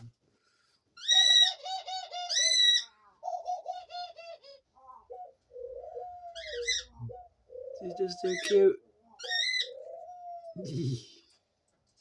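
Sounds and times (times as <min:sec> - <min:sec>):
doves cooing: 0:01.0 - 0:11.5.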